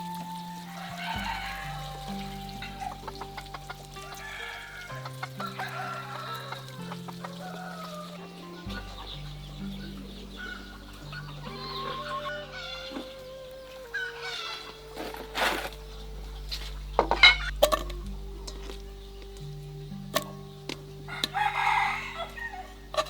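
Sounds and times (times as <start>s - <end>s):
soft background music: 0.0s - 23.0s
chickens clucking: 0.2s - 19.4s.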